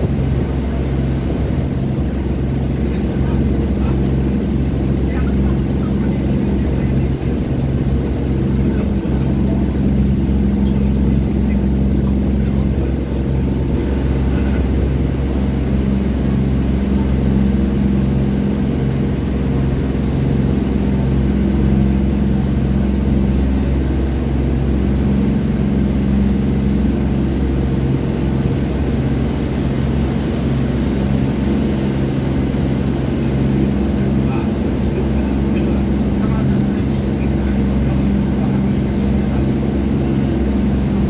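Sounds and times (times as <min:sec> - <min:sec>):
boat engine droning: 0:00.0 - 0:41.0
water rushing along hull: 0:00.0 - 0:41.0.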